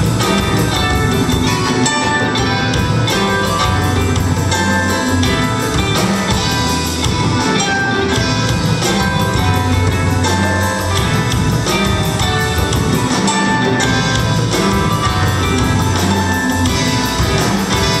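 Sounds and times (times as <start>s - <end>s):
bass line: 0.0s - 18.0s
drum kit beat: 0.0s - 18.0s.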